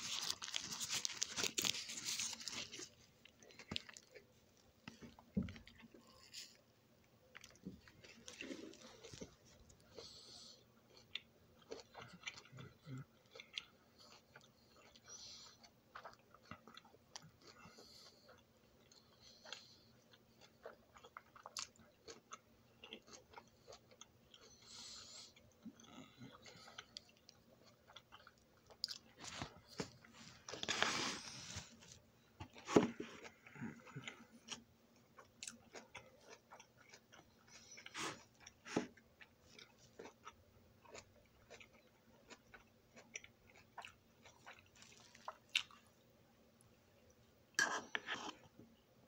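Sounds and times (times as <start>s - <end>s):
person chewing food: 0.0s - 46.0s, 46.6s - 48.8s.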